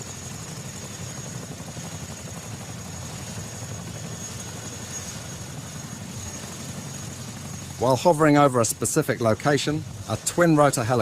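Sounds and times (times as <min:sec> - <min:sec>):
high-pitched turbine whine: 0:00.0 - 0:11.0
low helicopter rotor rumble: 0:00.0 - 0:11.0.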